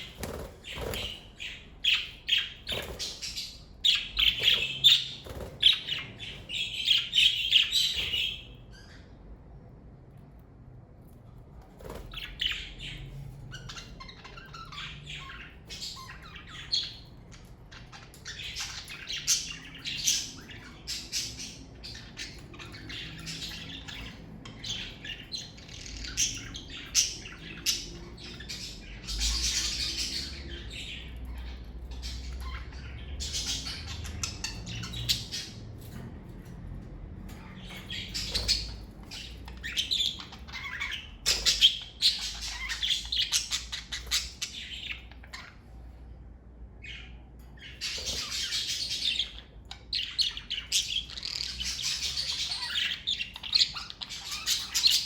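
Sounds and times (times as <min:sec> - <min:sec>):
parakeets chirping and chattering: 0:00.0 - 0:55.0.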